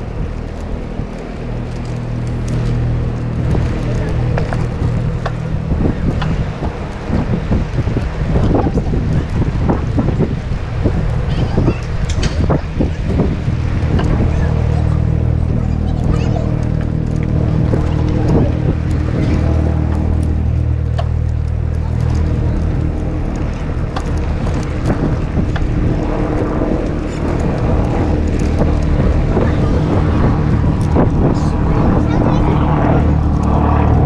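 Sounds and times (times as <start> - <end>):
low motor hum: 0.0 - 34.0.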